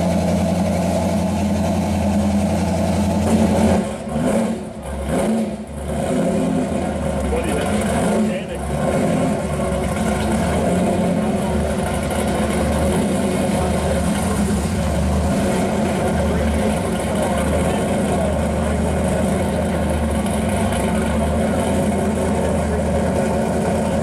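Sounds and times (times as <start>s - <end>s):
car engine idling unevenly: 0.0s - 24.0s.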